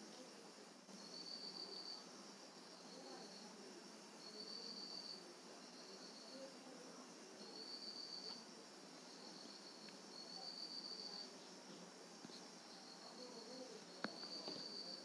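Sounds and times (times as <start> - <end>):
room hiss: 0.0 - 15.0
high insect trill: 0.9 - 15.0.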